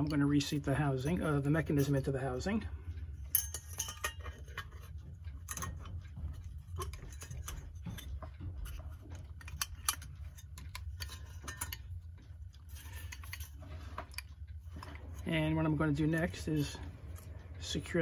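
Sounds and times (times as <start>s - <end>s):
clock mechanism clicks and taps: 0.0s - 18.0s
steady low hum: 0.0s - 18.0s.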